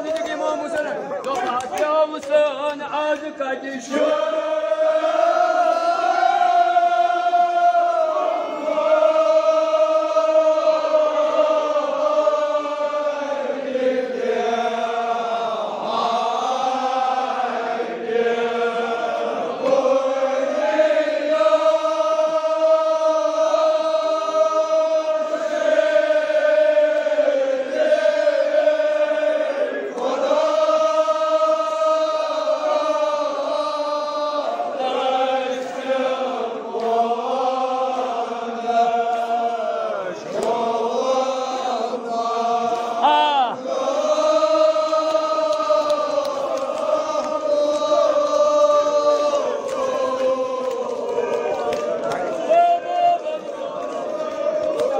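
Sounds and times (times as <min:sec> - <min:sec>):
men chanting: 0:00.0 - 0:54.9.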